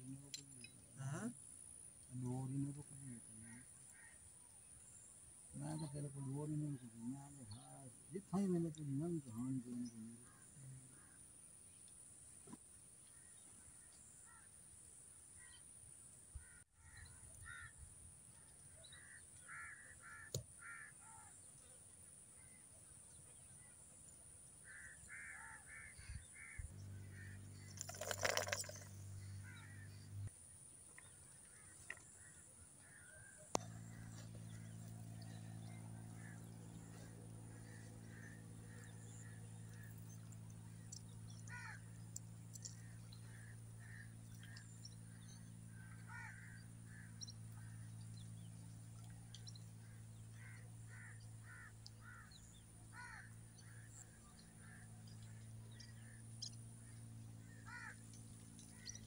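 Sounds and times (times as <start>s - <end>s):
birds calling: 0.0s - 15.7s, 16.3s - 59.0s
low steady hum: 0.0s - 59.0s.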